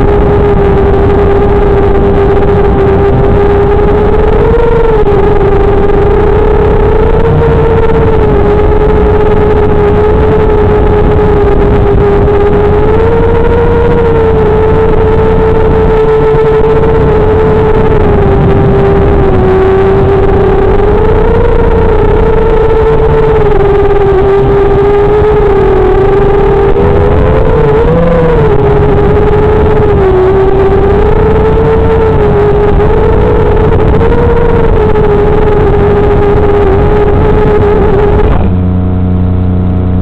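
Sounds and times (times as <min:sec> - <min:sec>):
drone motors whining: 0:00.0 - 0:40.0
low rumble: 0:00.0 - 0:40.0.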